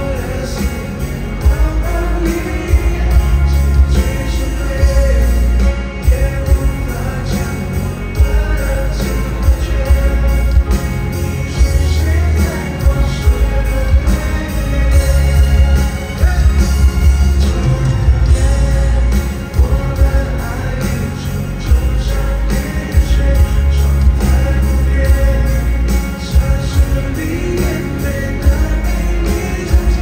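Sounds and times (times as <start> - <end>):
heavy pulsing bass: 0.0 - 30.0
live pop band playing: 0.0 - 30.0
person singing: 0.0 - 30.0.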